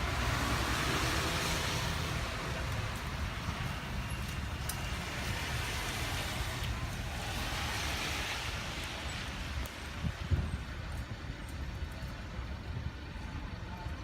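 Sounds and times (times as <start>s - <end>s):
traffic hiss on wet street: 0.0s - 14.0s
wind rumbling on microphone: 0.0s - 14.0s.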